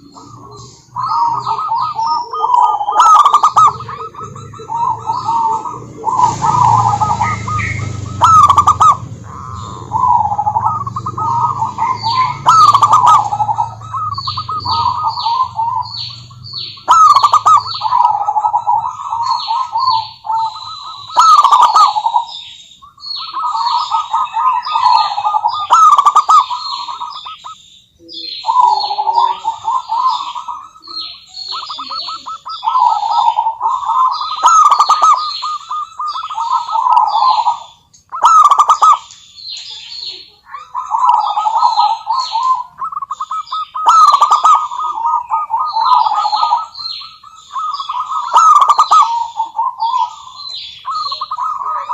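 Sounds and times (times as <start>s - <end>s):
dove cooing: 0.0s - 51.9s
high falling chirps: 0.0s - 51.9s.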